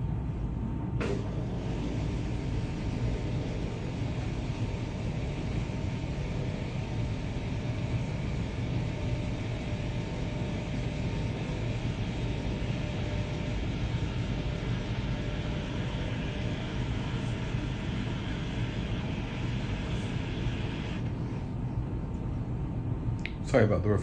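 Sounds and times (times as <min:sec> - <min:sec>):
tumble dryer hum and whoosh: 0:00.0 - 0:23.1.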